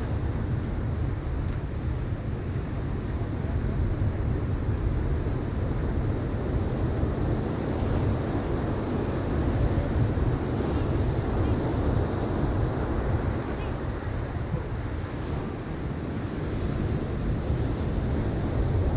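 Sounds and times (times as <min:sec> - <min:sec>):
wind buffeting microphone: 0:00.0 - 0:18.9
ocean surf breaking: 0:03.5 - 0:18.9.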